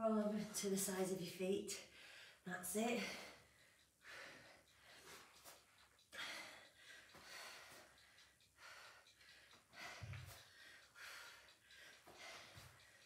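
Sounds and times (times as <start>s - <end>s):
woman breathing hard: 1.9s - 2.4s, 3.0s - 13.0s.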